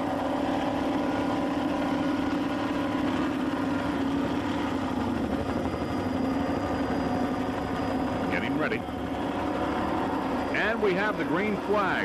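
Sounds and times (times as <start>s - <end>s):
powerboat engines droning: 0.0s - 12.0s.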